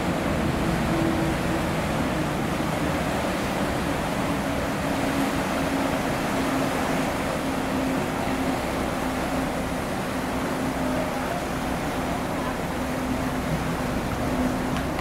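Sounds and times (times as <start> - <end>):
ferry engines droning: 0.0 - 15.0
water churning: 0.0 - 15.0.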